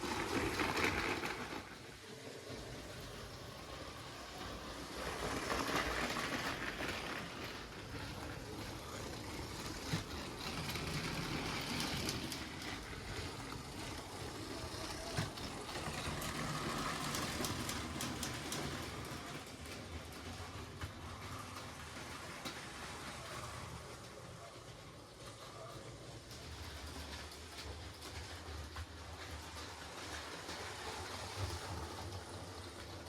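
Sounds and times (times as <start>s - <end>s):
toy train motor whir: 0.0s - 33.0s
wheel rumble: 0.0s - 33.0s.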